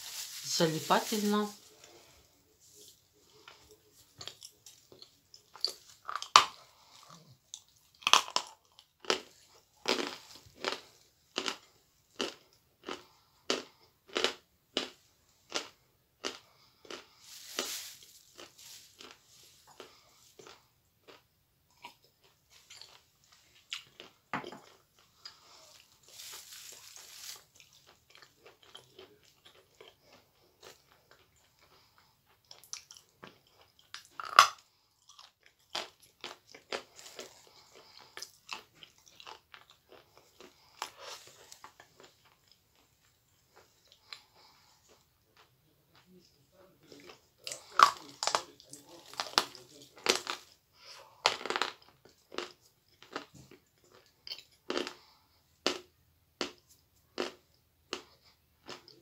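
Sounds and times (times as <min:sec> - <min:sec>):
crunchy chewing: 0:01.5 - 0:59.0.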